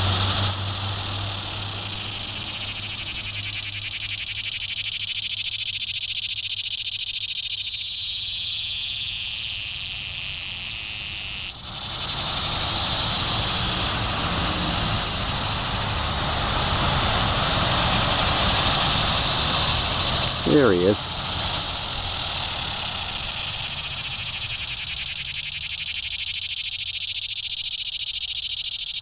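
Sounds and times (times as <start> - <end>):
cicada buzzing: 0.0 - 29.0.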